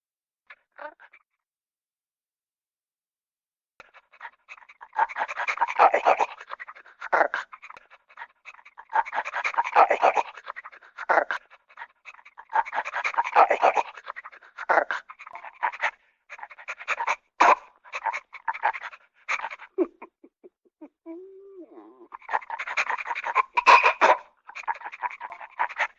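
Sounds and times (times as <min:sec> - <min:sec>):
dog panting: 0:03.8 - 0:20.9, 0:21.9 - 0:25.9.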